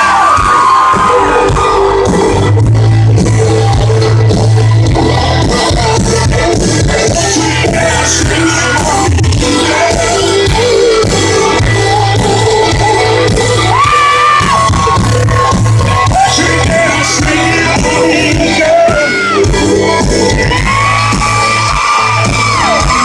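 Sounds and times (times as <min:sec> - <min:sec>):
country band playing: 0:00.0 - 0:23.0
crowd shouts and whoops: 0:00.0 - 0:23.0
male lead vocal singing: 0:00.0 - 0:23.0.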